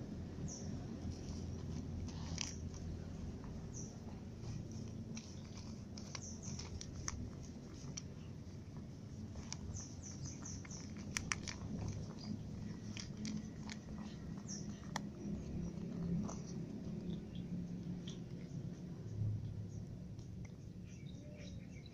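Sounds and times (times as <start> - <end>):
cat crunching dry kibble: 0.5 - 20.8.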